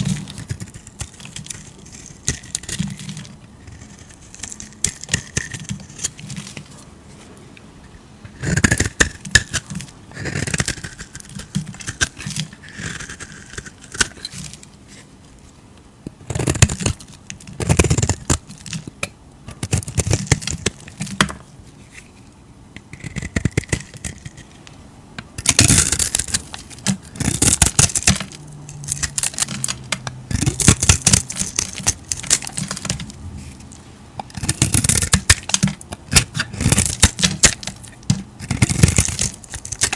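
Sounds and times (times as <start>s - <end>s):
knife cutting soap: 0.0s - 6.9s, 8.3s - 15.1s, 16.2s - 24.6s, 25.4s - 39.9s.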